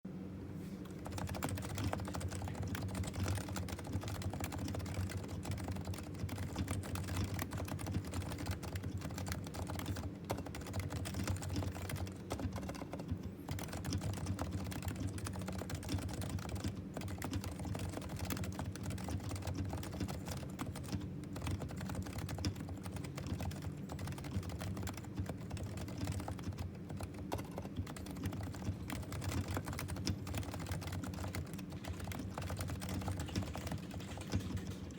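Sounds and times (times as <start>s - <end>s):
fast keyboard typing: 0.9s - 34.9s.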